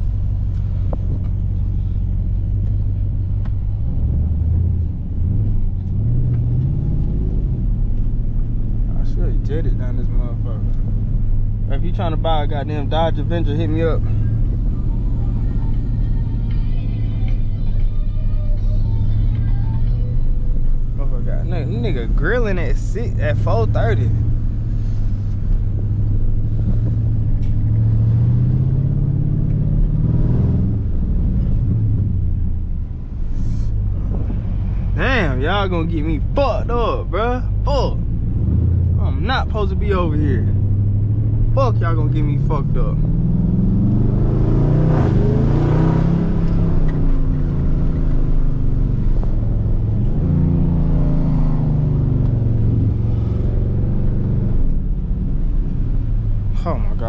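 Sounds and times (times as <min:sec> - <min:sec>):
car engine cruising: 0:00.0 - 0:57.0
road rumble: 0:00.0 - 0:57.0.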